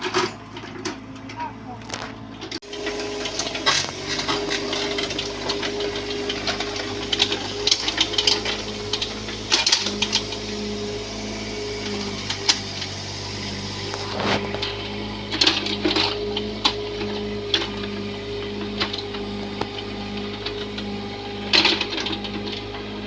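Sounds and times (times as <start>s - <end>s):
excavator engine drone: 0.0s - 23.0s
hydraulic whine: 0.0s - 23.0s.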